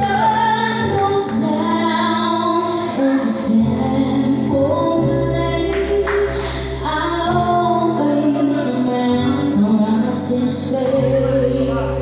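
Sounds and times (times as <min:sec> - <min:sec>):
backing music: 0:00.0 - 0:12.0
woman singing into microphone: 0:00.0 - 0:12.0.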